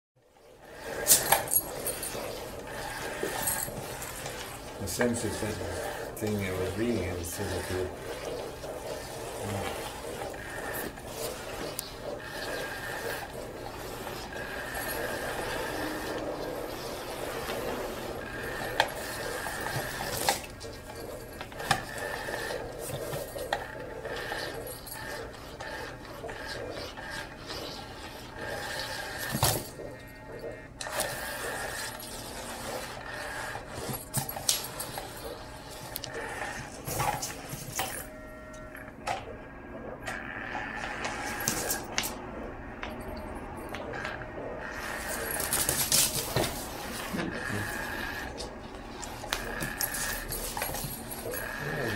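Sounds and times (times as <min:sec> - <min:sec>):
wand rasping under fabric: 0:00.4 - 0:38.1, 0:44.7 - 0:51.9
thin motor whine: 0:00.6 - 0:51.9.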